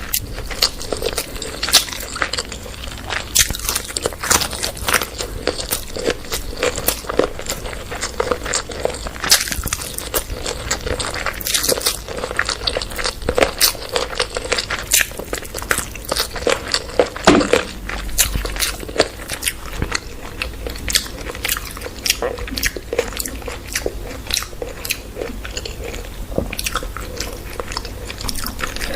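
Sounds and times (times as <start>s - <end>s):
person chewing with crunches: 0.0s - 28.9s.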